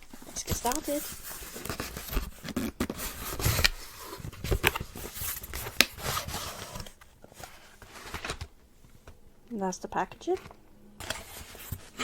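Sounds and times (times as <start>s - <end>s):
packaging rubbing and scraping: 0.0s - 8.6s, 10.2s - 12.0s.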